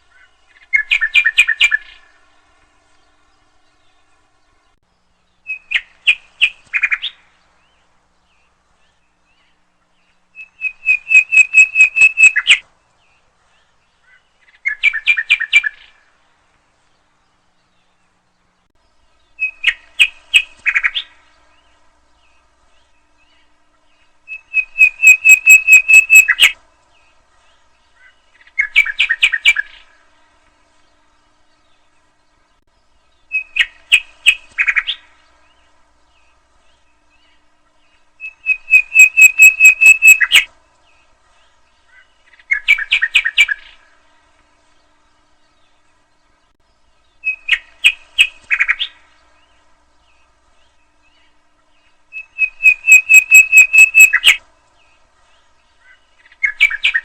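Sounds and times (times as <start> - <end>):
nightingale singing: 0.0 - 2.4, 3.0 - 16.3, 16.9 - 44.1, 44.7 - 57.0.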